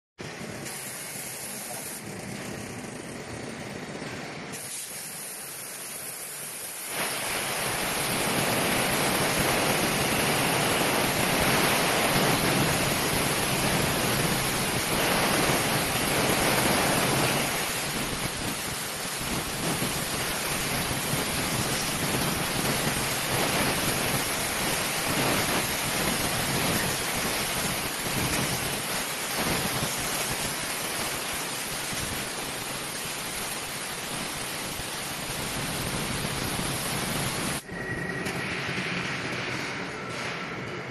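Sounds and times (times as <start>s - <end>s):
compressed air jets hissing: 0.6s - 2.1s, 4.5s - 37.6s.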